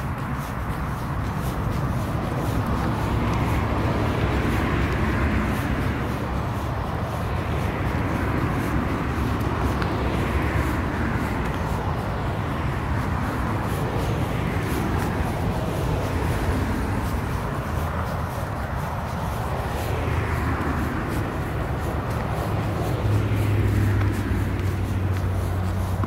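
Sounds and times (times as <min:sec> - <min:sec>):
cars passing on street: 0:00.0 - 0:26.0.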